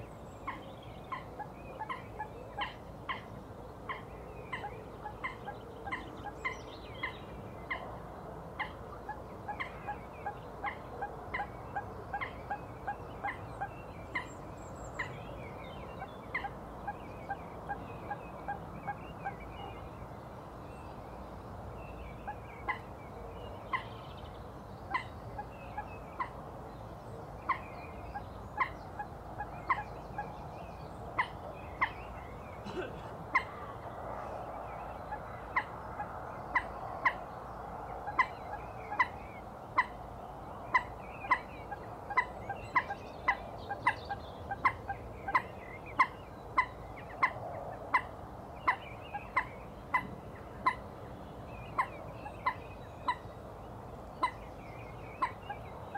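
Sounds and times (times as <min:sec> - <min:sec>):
faint background birdsong: 0:00.0 - 0:55.9.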